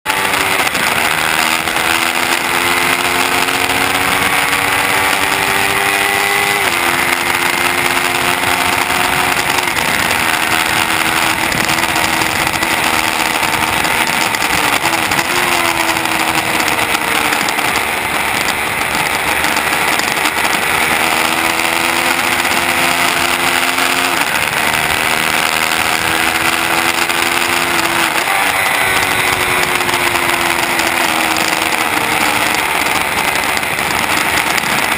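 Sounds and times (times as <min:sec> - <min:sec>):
motorcycle engine accelerating: 0:00.0 - 0:34.9
wind rush: 0:00.4 - 0:34.9.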